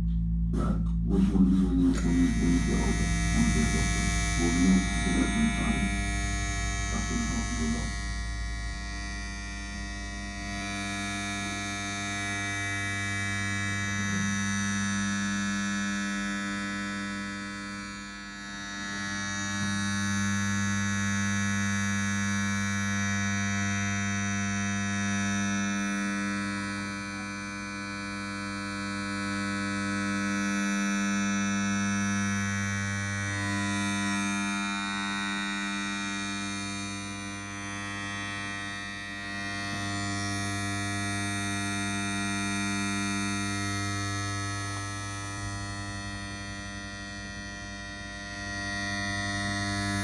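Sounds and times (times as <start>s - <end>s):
electronic buzzing drone: 0.0s - 50.0s.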